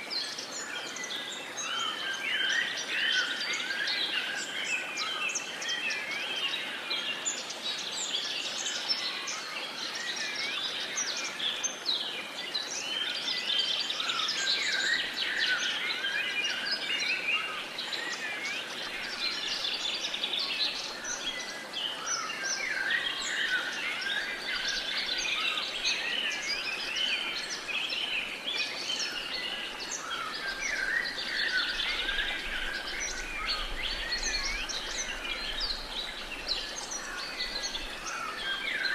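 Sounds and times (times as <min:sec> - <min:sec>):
many birds chirping and singing: 0:00.0 - 0:38.9.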